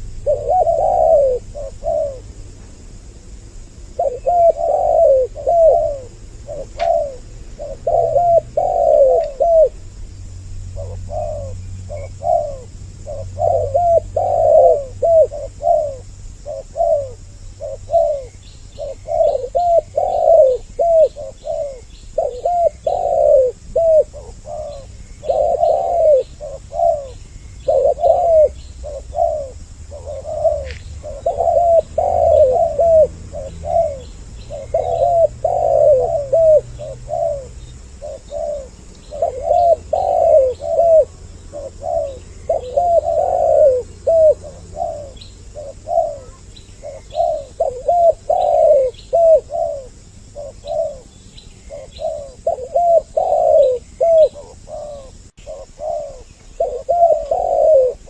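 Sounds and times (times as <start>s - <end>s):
doves cooing: 0.0s - 2.6s, 3.7s - 58.0s.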